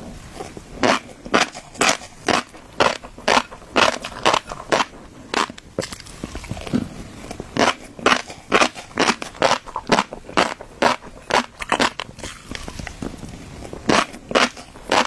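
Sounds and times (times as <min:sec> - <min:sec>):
fish roe crackling and popping: 0:00.0 - 0:15.0.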